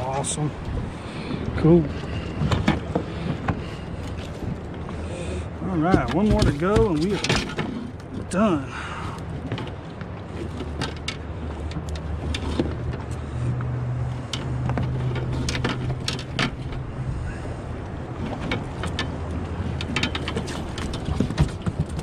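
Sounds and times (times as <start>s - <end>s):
fishing gear clicking and knocking: 0.0s - 5.1s, 5.7s - 8.4s, 9.1s - 17.0s, 17.6s - 22.0s
outboard motor idling: 0.0s - 22.0s.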